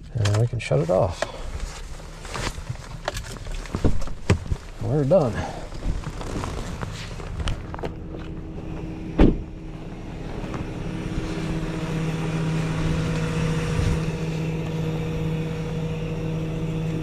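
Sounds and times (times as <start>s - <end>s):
truck engine running: 0.6s - 17.0s.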